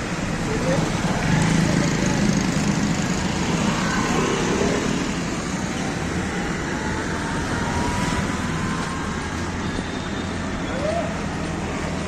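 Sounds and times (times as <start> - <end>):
busy road traffic: 0.0 - 12.0.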